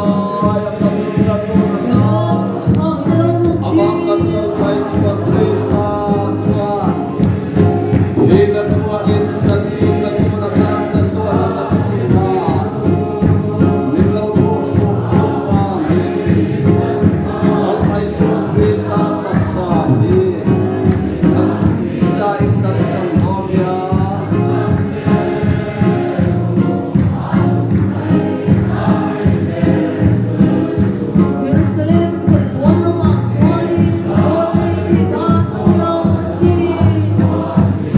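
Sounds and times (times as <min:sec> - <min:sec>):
congregation singing a hymn: 0:00.0 - 0:37.9
steady drumbeat: 0:00.0 - 0:37.9.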